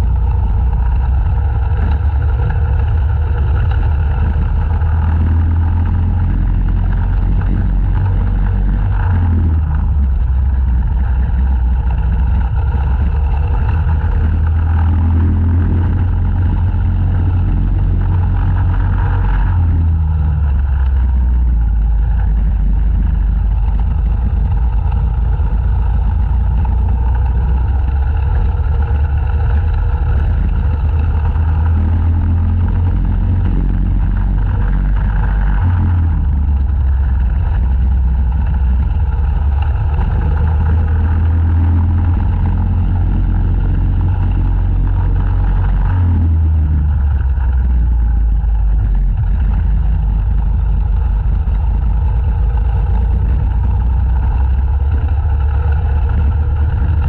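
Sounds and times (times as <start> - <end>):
kart engine at high revs: 0.0 - 57.0.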